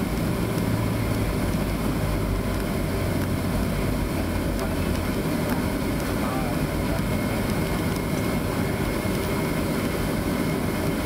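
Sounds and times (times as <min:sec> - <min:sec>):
jet engines rumbling in cabin: 0:00.0 - 0:11.0
wheels rolling on runway: 0:00.0 - 0:11.0.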